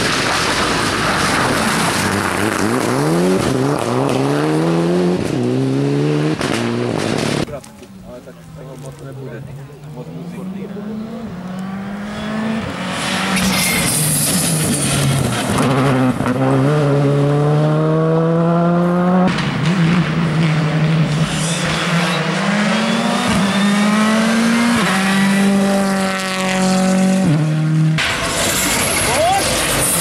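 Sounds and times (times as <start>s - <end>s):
rally cars passing at speed: 0.0s - 7.5s, 8.5s - 30.0s.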